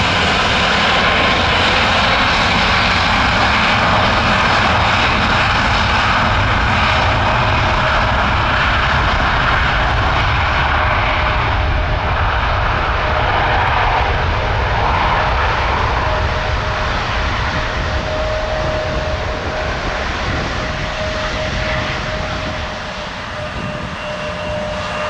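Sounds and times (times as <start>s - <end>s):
jet engines roaring with whine: 0.0s - 25.0s.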